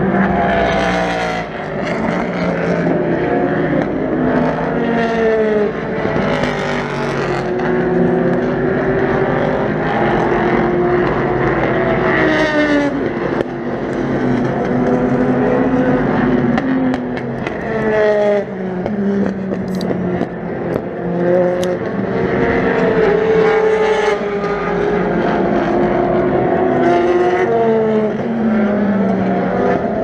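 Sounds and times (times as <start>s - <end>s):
racing cars passing: 0.0s - 30.0s.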